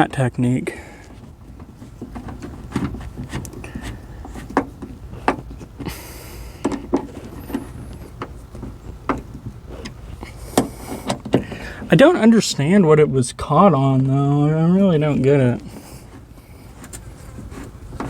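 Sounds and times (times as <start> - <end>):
scraping rustle: 0.2 - 12.4, 14.7 - 18.0.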